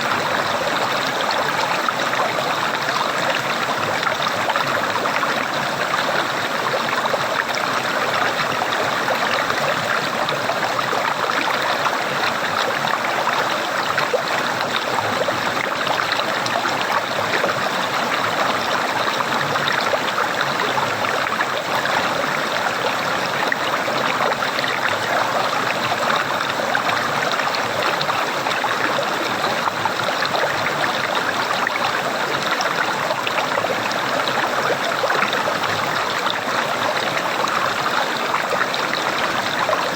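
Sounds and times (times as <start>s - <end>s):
running water gurgling: 0.0s - 39.9s.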